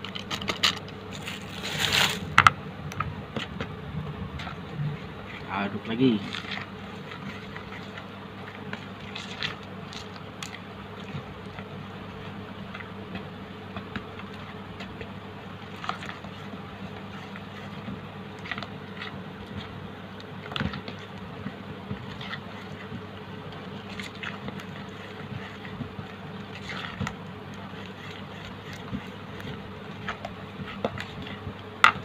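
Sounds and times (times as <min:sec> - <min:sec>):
steady low hum: 0:00.0 - 0:32.0
spatula stirring batter in bowl: 0:04.4 - 0:32.0.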